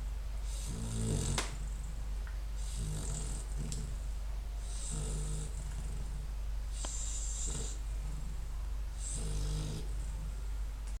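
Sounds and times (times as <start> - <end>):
dog snoring: 0.4 - 2.0, 2.6 - 10.4.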